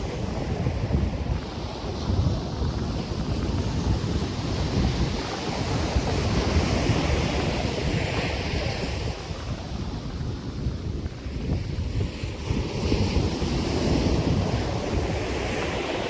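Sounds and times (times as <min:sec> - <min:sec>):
ocean surf washing onto beach: 0:00.0 - 0:16.0
wind buffeting microphone: 0:00.0 - 0:16.0.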